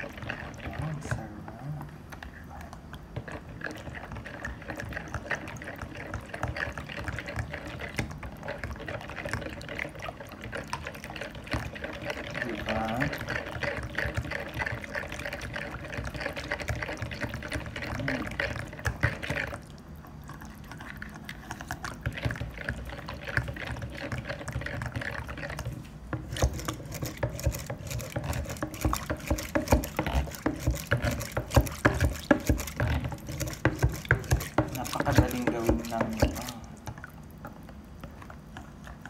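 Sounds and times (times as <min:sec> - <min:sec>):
whisk beating batter in a bowl: 0:00.0 - 0:39.0.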